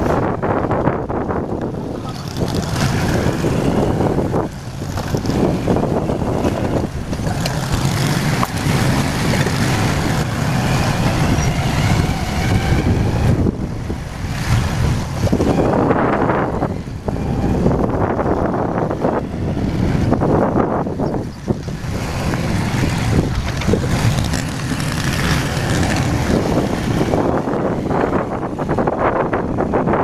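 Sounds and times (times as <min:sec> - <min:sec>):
motorcycle engine: 0:00.0 - 0:29.8
road noise: 0:00.0 - 0:30.0
wind rushing over microphone: 0:00.0 - 0:30.0.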